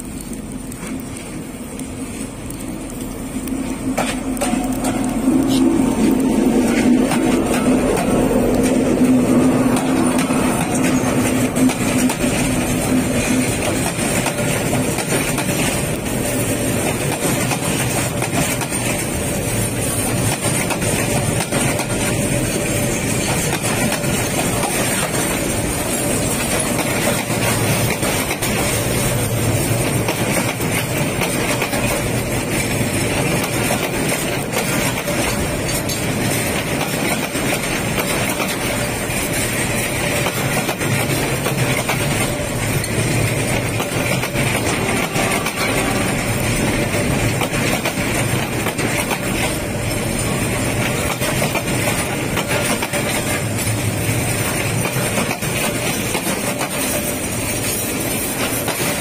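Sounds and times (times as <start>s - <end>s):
diesel locomotive engine hum: 0.0s - 59.0s
train wheels rumbling on rails: 0.0s - 59.0s.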